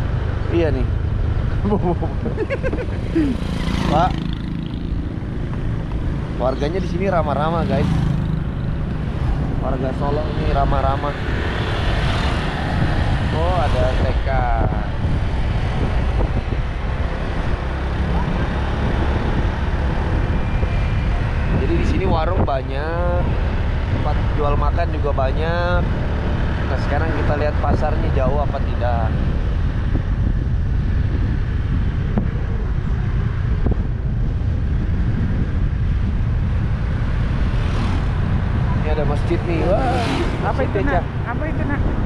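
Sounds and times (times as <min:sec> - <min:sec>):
motorcycle engine and road noise: 0:00.0 - 0:42.0
wind buffeting microphone: 0:00.0 - 0:42.0.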